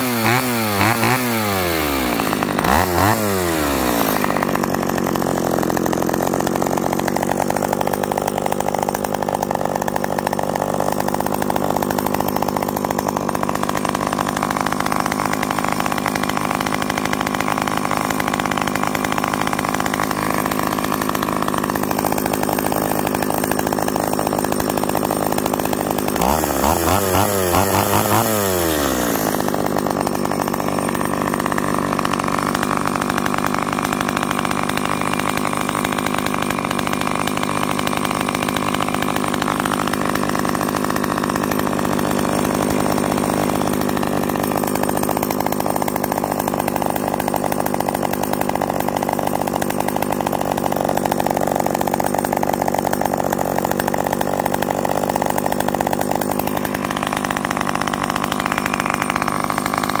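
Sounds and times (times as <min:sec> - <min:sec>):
chainsaw engine running: 0:00.0 - 1:00.0.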